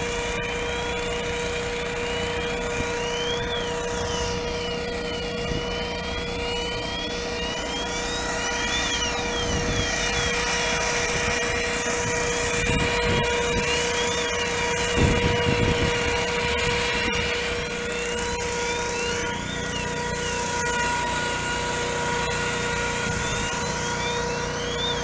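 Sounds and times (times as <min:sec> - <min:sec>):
engine-driven equipment droning: 0:00.0 - 0:25.0
sweeping tones: 0:00.0 - 0:25.0.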